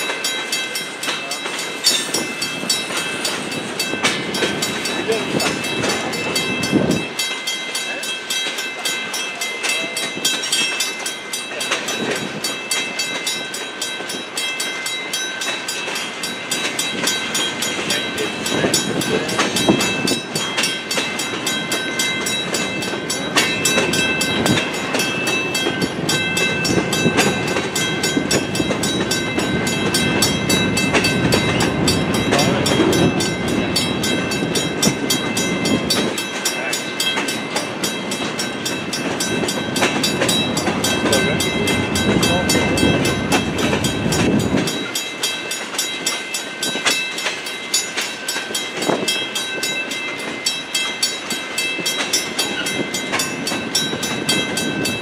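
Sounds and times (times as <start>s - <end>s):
freight train rumble: 0.0s - 55.0s
wheels clattering on rail: 0.0s - 55.0s.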